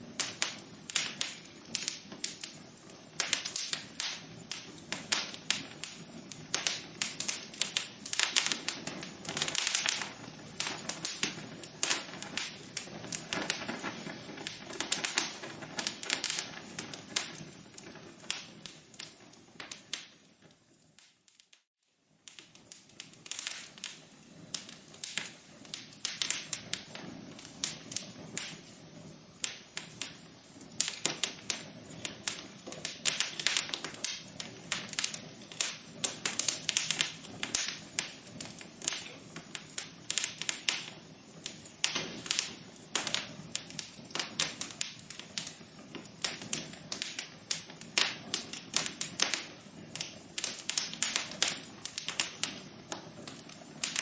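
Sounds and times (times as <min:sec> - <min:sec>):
low hiss of burning fire: 0:00.0 - 0:54.0
wood fire crackling: 0:00.0 - 0:54.0.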